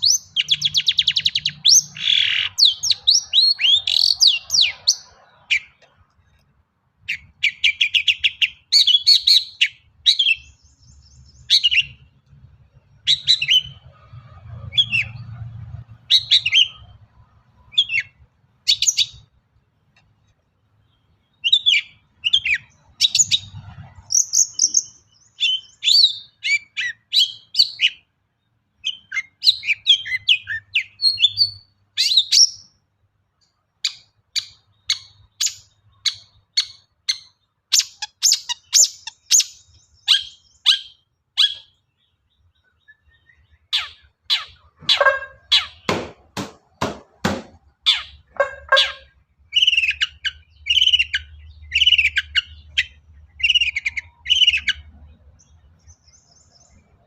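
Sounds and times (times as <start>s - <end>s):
bird chirps and rattling trills: 0.0s - 32.8s, 33.4s - 46.0s, 47.5s - 57.0s.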